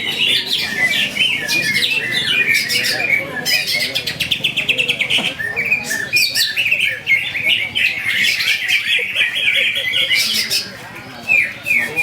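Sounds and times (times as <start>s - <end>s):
birds whistling and chirping: 0.0s - 12.0s.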